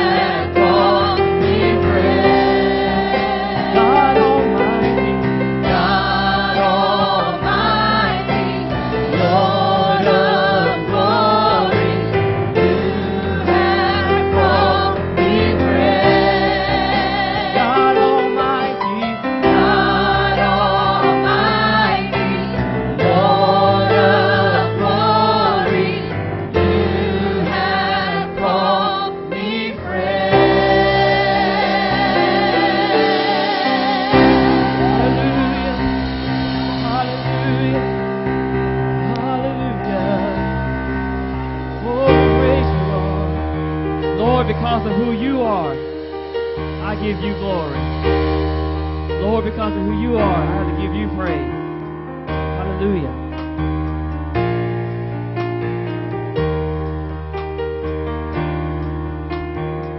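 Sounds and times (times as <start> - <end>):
choir singing gospel in harmony: 0.0 - 59.9
instrumental accompaniment: 0.0 - 59.9.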